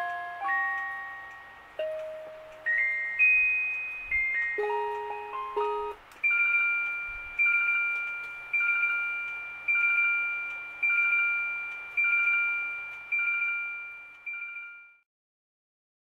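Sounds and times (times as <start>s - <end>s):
alarm clock two-tone beeps: 1.8s - 15.0s.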